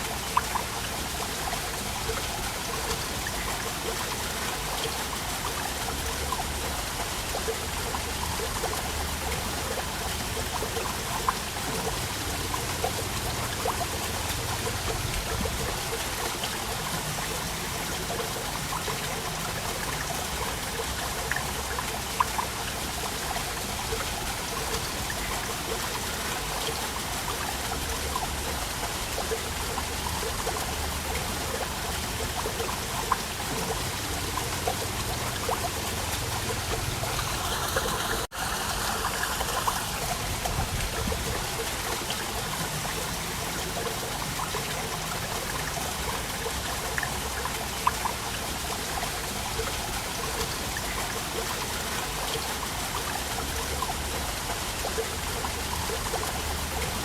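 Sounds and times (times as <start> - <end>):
water splashes and drips: 0.0 - 57.0
waterfall rushing: 0.0 - 57.0.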